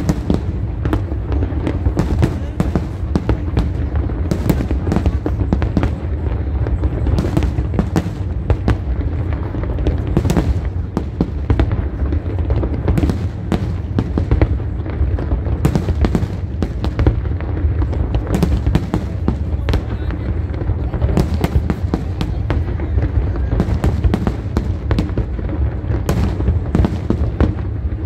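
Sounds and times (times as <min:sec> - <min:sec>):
firework crackles: 0:00.0 - 0:28.0.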